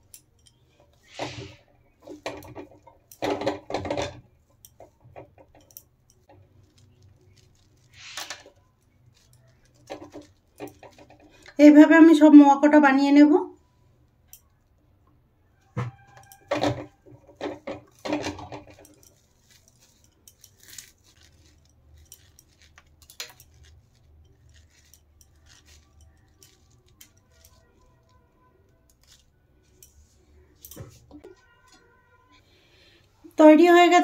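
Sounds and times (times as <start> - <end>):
puffed rice clicking and crackling: 0.0 - 11.6, 15.9 - 31.6.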